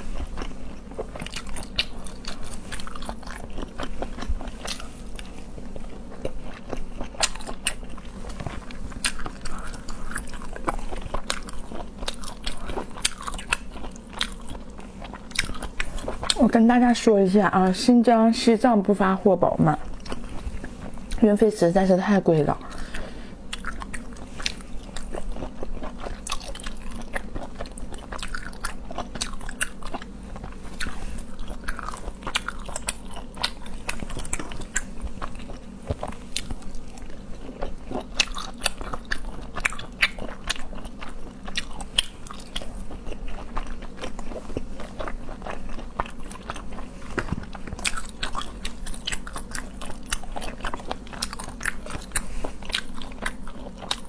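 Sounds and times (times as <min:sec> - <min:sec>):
chewing and crunching seafood: 0:00.0 - 0:54.0
steady low hum: 0:00.0 - 0:54.0.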